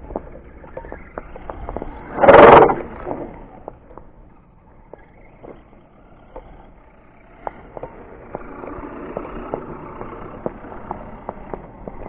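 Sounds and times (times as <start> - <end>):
rc crawler motor and drivetrain: 0.0 - 12.0.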